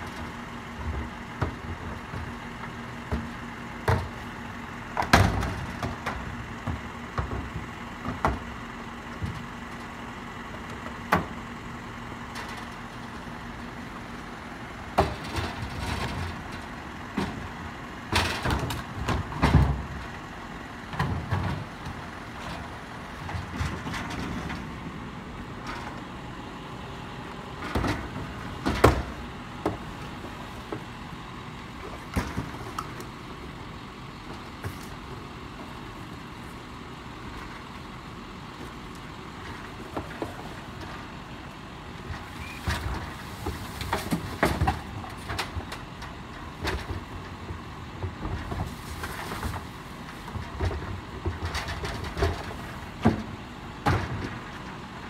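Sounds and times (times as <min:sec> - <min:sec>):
garbage truck running: 0:00.0 - 0:55.0.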